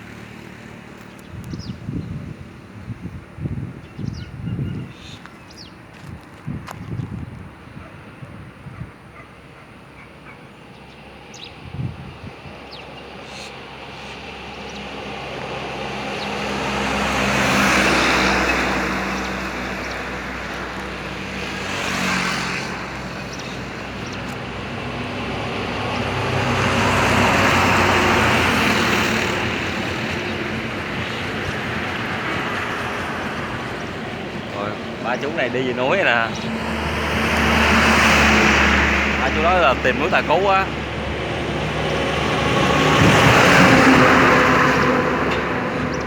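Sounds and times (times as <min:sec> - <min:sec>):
vehicles passing on a road: 0:00.0 - 0:46.0.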